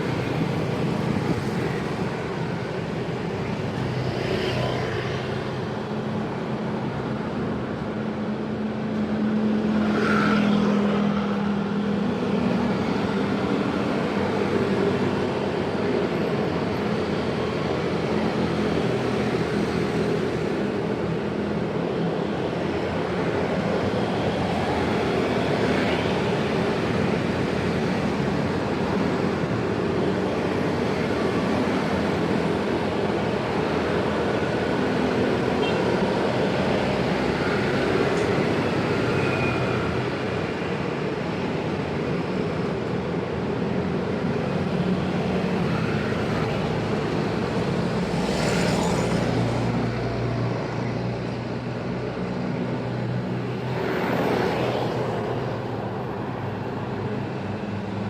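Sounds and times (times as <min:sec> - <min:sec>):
busy road traffic: 0:00.0 - 0:58.0.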